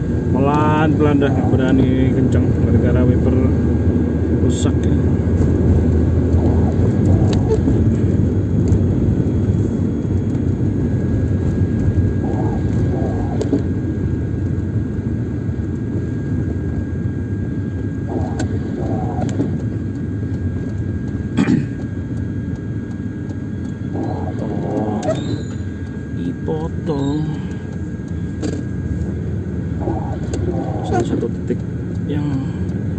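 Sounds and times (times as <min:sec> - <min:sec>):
car road and engine noise: 0:00.0 - 0:32.9.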